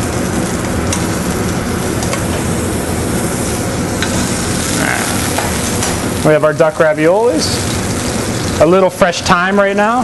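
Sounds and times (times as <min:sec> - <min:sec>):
sizzling in a pan: 0:00.1 - 0:09.2.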